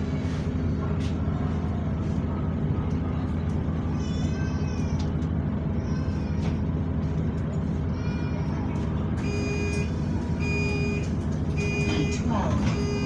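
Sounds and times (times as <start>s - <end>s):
bus engine idling: 0.0s - 13.0s
cooling fan running: 0.0s - 13.0s.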